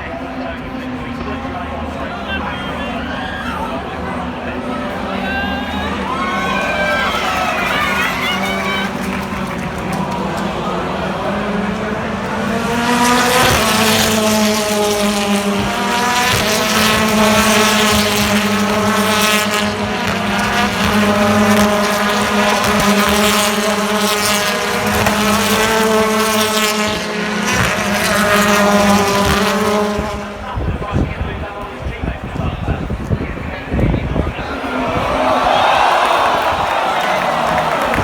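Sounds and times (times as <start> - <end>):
race car engine at speed: 0.0 - 38.0.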